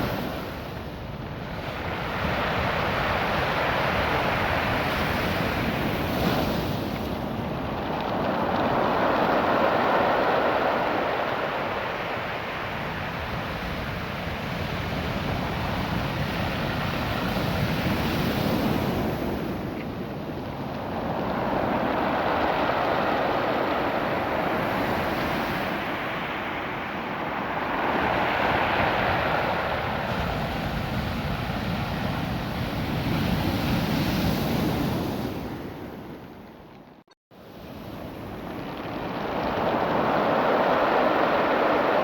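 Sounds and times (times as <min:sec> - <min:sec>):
ocean surf washing on beach: 0:00.0 - 0:36.8, 0:37.4 - 0:42.0.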